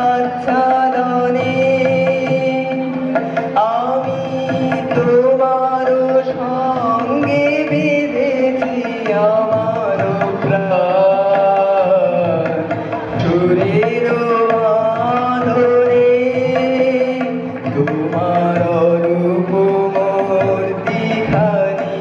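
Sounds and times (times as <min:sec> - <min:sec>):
boy singing into a microphone: 0:00.0 - 0:22.0
harmonium drone: 0:00.0 - 0:22.0.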